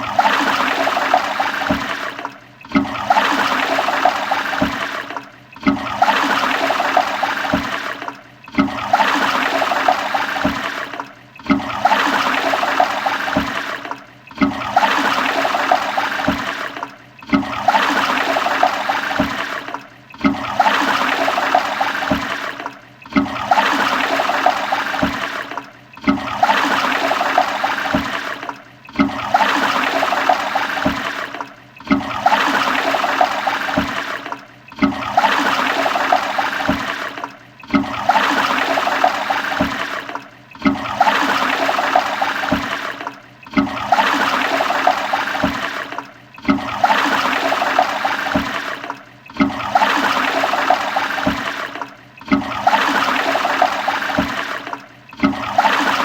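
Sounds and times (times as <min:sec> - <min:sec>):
toilet flushing: 0:00.0 - 0:56.0.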